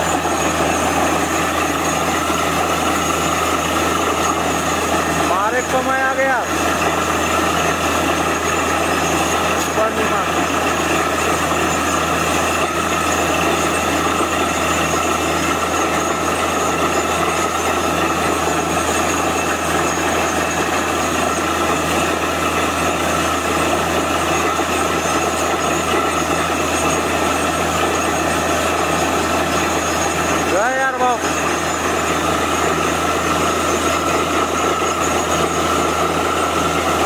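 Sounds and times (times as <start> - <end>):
drilling rig running: 0.0 - 37.0.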